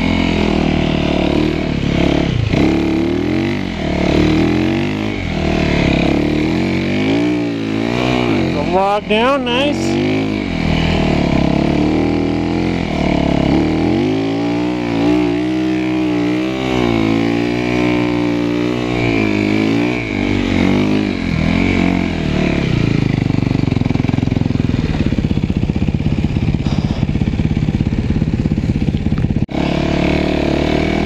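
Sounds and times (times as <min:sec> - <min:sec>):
snow bike engine revving: 0:00.0 - 0:31.0.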